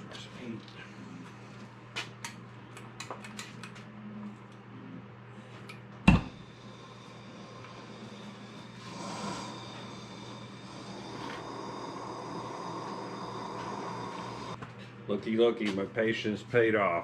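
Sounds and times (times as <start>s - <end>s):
mechanical hum with faint whine: 0.0s - 17.0s.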